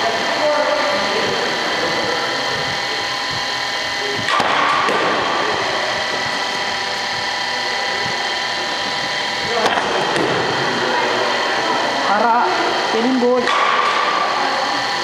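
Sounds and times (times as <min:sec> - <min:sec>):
mechanical hum with held tones: 0:00.0 - 0:15.0.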